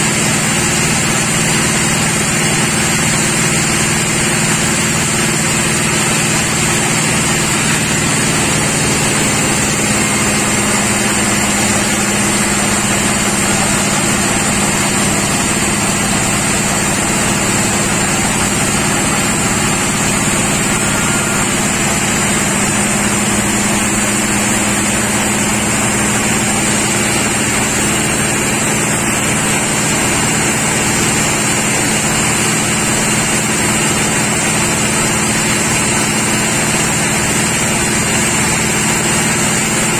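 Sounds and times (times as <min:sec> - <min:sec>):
high machine whine: 0:00.0 - 0:39.9
sawmill machinery hum: 0:00.0 - 0:39.9.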